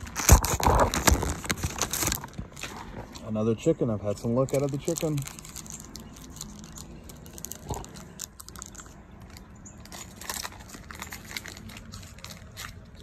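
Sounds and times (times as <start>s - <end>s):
foil pack tearing: 0.0s - 3.3s, 4.2s - 8.9s, 9.8s - 13.0s
foil wrapper crinkling: 0.0s - 13.0s.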